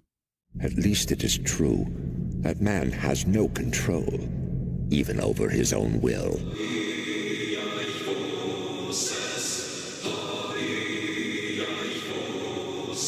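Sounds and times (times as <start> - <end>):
choir singing sustained chords: 1.6 - 13.0.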